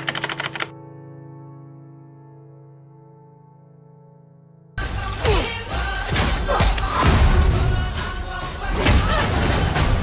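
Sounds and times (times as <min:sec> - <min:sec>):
film trailer soundtrack: 0:00.0 - 0:10.0.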